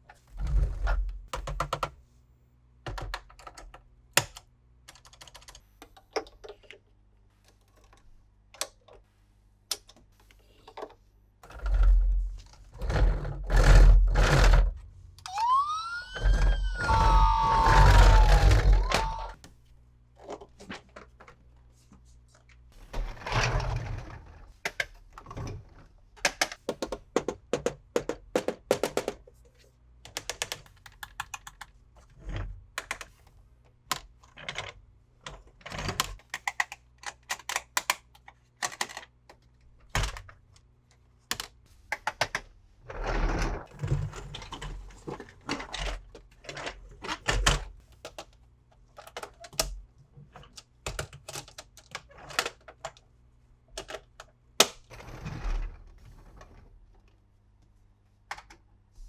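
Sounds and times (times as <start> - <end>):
plastic parts clicking and knocking: 0.0 - 2.0, 2.8 - 9.0, 9.7 - 19.6, 20.2 - 21.6, 22.4 - 42.5, 43.2 - 53.1, 53.7 - 54.9, 58.3 - 58.7.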